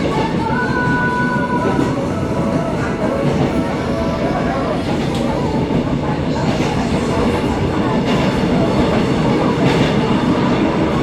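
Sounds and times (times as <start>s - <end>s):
rail joint clicks: 0.0s - 11.0s
train wheels rumbling on rails: 0.0s - 11.0s.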